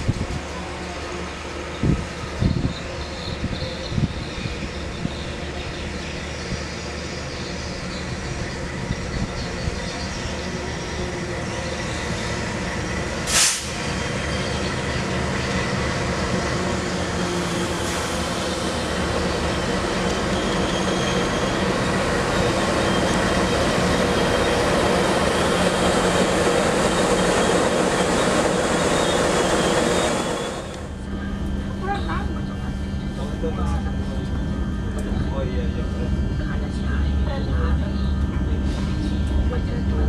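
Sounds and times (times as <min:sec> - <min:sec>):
diesel locomotive engine: 0:00.0 - 0:40.0.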